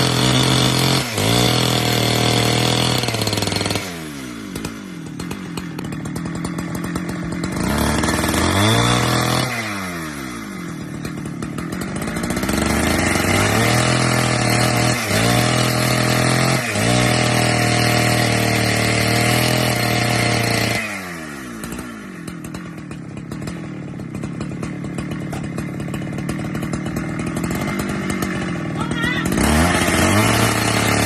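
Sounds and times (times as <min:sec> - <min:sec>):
chainsaw at full throttle: 0:00.0 - 0:31.0.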